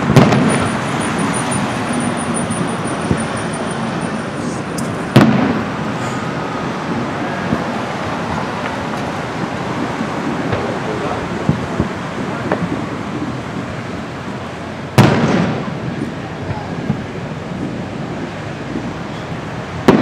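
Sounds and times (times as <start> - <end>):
distant fireworks booms: 0.0 - 4.2, 4.8 - 20.0
steady background noise: 0.0 - 20.0.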